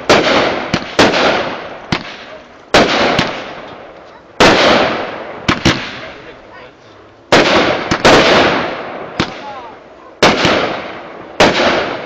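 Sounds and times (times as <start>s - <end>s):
sharp firework pops: 0.0s - 6.2s, 7.3s - 12.0s
fireworks bangs with echo: 0.0s - 6.4s, 7.3s - 12.0s.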